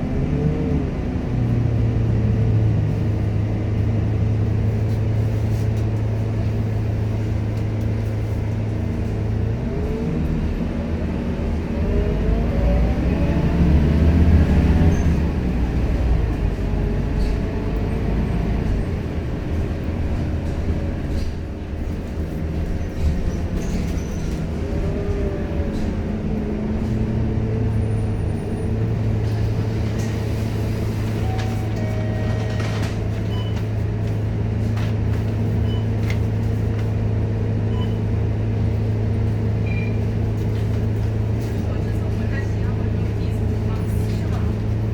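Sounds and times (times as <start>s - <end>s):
bus diesel engine pulling away: 0.0s - 44.9s.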